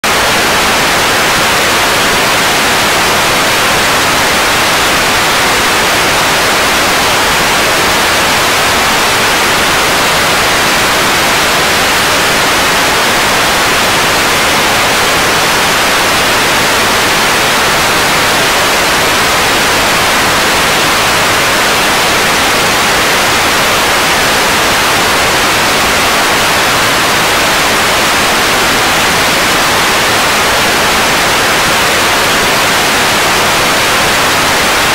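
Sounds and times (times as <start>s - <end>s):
loud static hiss: 0.0s - 34.9s.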